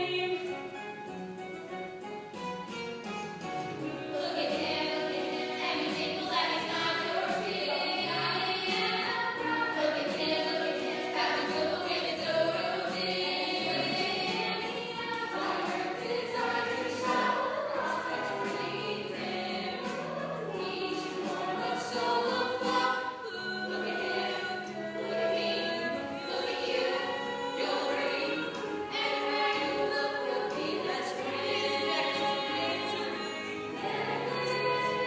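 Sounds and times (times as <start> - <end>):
choir singing held notes: 3.6 - 35.0.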